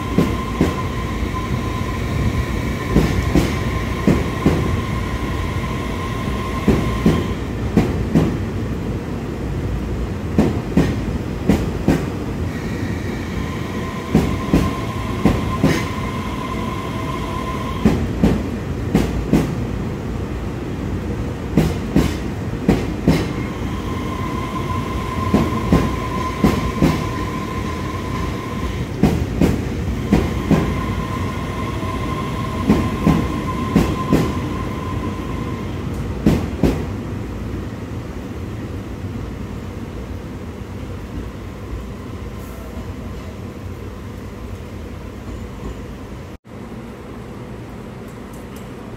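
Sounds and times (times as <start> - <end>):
train rumble: 0.0 - 48.9.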